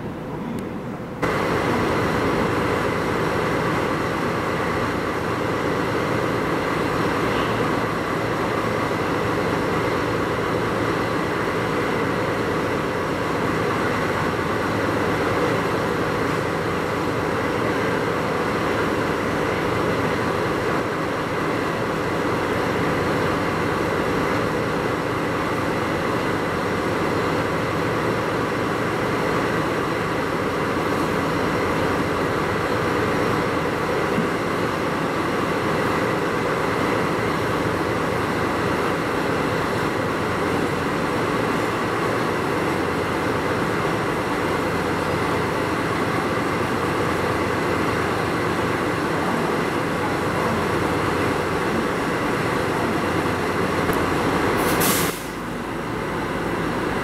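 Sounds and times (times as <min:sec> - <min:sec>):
train running slowly: 0:00.0 - 0:57.0.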